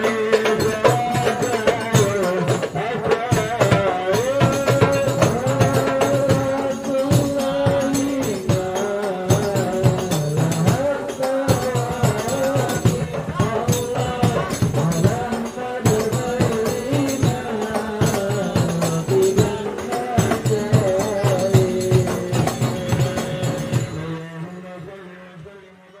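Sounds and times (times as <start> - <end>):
frame drums played fast: 0.0 - 24.1
men singing in a group: 0.0 - 26.0.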